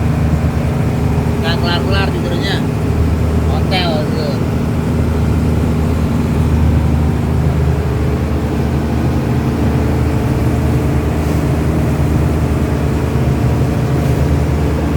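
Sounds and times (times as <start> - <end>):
engine running steadily: 0.0 - 14.9.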